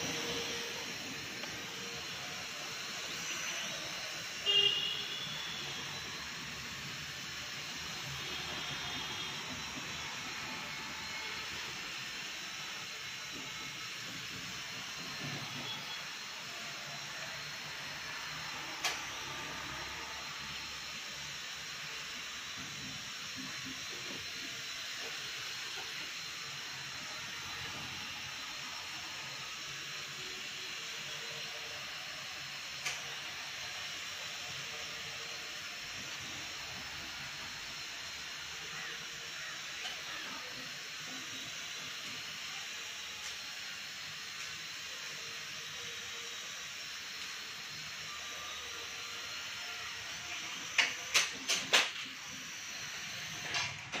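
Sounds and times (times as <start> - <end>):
toy quadcopter whirring: 0.0 - 54.0.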